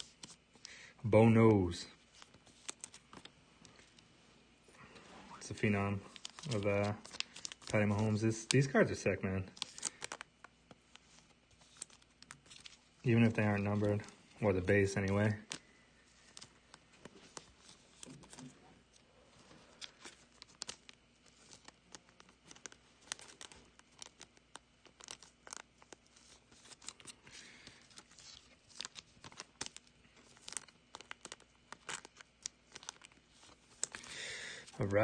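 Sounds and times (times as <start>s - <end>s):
plastic sleeves crinkling: 0.0s - 35.0s.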